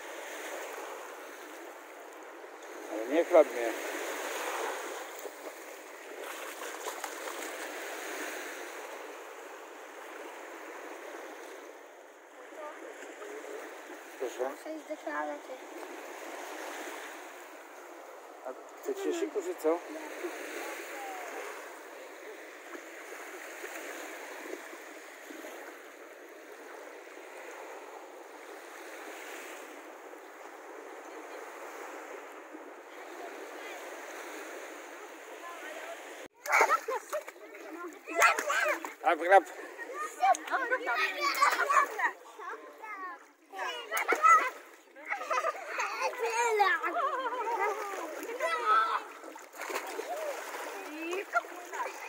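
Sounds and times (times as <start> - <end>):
small waves washing onto sand: 0.0 - 52.0
splashes in shallow water: 0.0 - 52.0.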